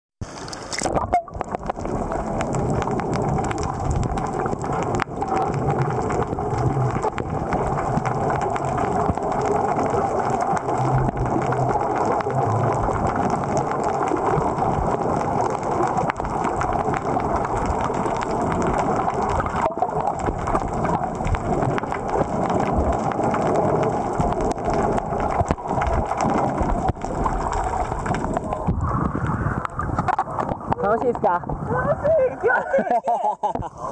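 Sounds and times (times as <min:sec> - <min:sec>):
muffled underwater water rush: 0:00.2 - 0:33.9.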